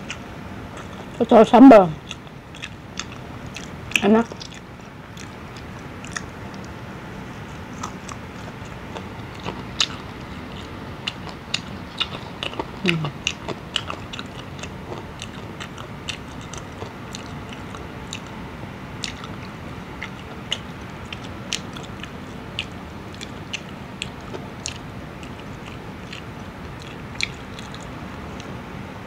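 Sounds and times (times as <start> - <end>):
chewing crispy food: 0.0 - 28.7
steady low hiss: 0.0 - 29.0.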